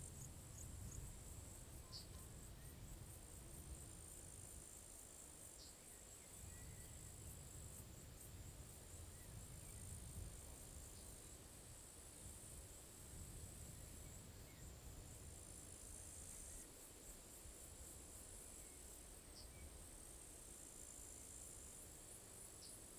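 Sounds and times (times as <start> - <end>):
crickets chirring: 0.0 - 22.9.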